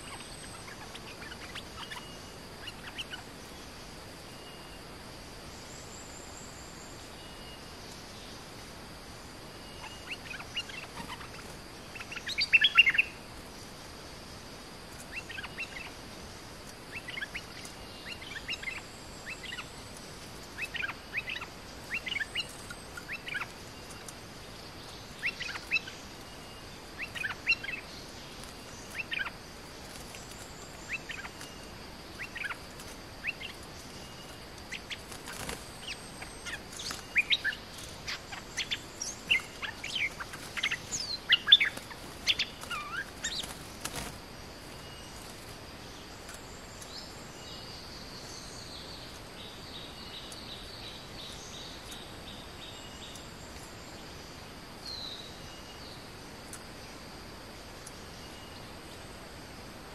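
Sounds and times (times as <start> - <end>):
bulbuls chirping: 0.0 - 59.8.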